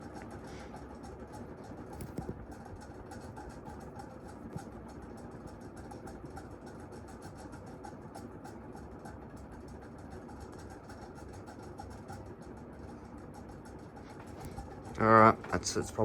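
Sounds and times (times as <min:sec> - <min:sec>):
ceiling fan running: 0:00.0 - 0:16.0
fan bearings ticking: 0:00.0 - 0:16.0.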